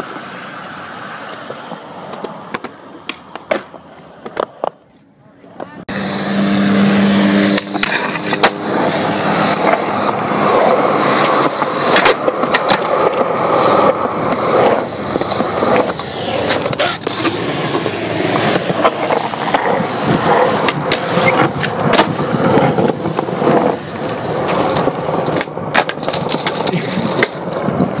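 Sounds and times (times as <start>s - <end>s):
skateboard wheels rolling on concrete: 0.0s - 28.0s
skateboard clacking on ground: 1.2s - 5.8s, 7.5s - 28.0s.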